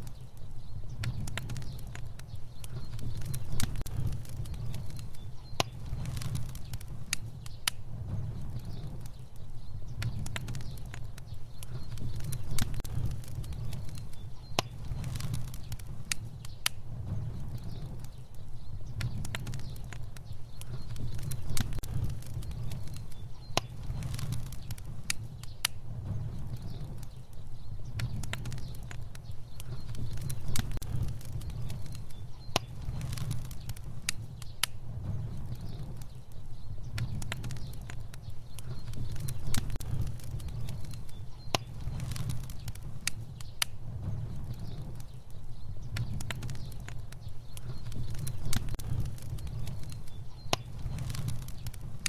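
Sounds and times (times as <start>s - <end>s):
fire crackling and popping: 0.0s - 52.0s
low rumble of flames: 0.0s - 52.0s.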